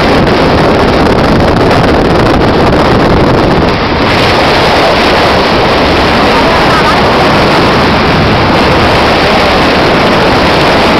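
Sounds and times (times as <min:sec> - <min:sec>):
boat rushing over choppy water: 0:00.0 - 0:10.9
wind buffeting microphone: 0:00.0 - 0:10.9.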